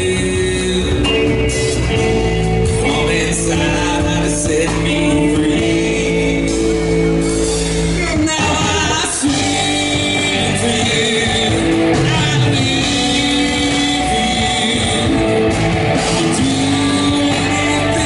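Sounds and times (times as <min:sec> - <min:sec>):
bass guitar: 0:00.0 - 0:18.0
drum kit: 0:00.0 - 0:18.0
electric guitars: 0:00.0 - 0:18.0
male singer: 0:00.0 - 0:18.0.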